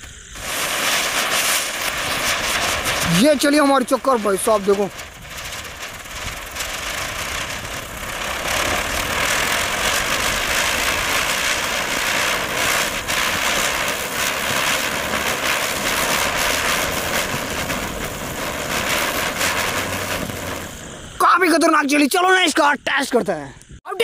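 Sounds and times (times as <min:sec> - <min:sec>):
firework fizzing hiss: 0:00.0 - 0:23.8.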